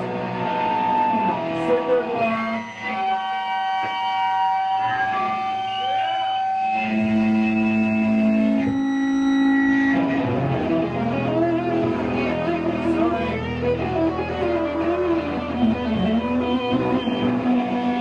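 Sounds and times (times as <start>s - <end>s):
punk band playing live: 0.0s - 18.0s.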